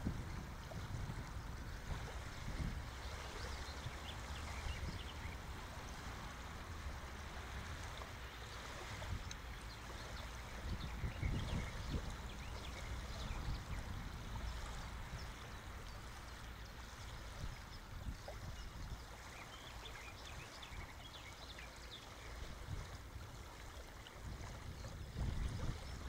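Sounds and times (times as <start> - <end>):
wind buffeting microphone: 0.0 - 21.2, 22.3 - 26.0
steady outdoor hiss: 0.0 - 24.2.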